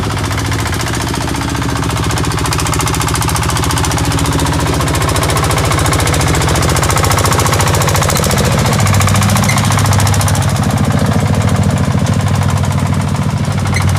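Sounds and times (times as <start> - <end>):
diesel engine chugging: 0.0 - 13.9.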